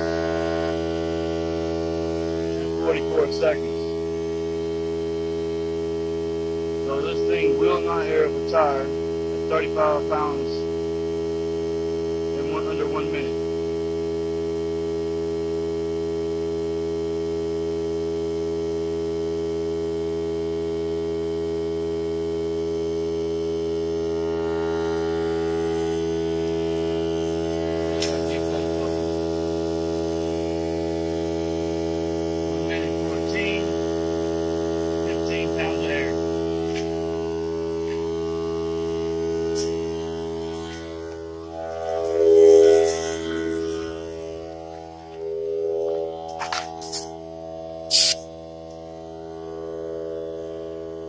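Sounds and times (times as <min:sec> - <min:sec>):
air compressor droning: 0:00.0 - 0:51.0.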